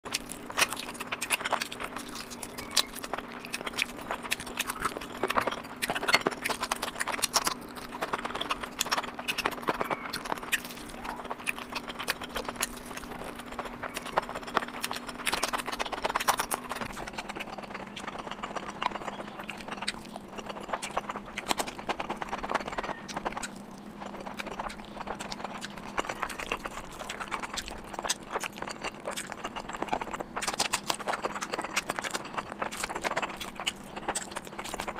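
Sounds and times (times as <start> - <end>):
low steady hum: 0.0 - 34.9
wet chewing and mouth smacks: 0.1 - 34.9.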